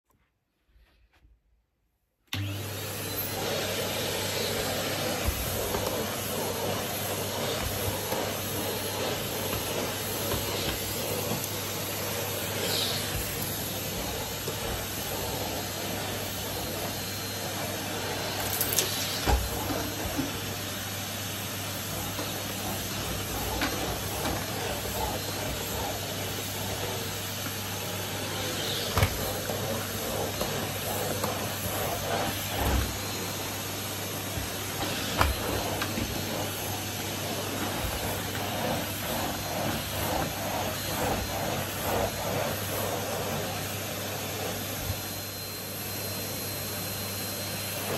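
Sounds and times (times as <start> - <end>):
vacuum cleaner running: 2.3 - 47.9.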